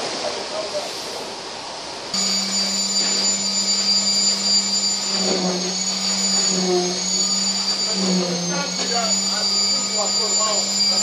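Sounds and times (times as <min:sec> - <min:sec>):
concrete vibrator whining: 0:02.2 - 0:11.0.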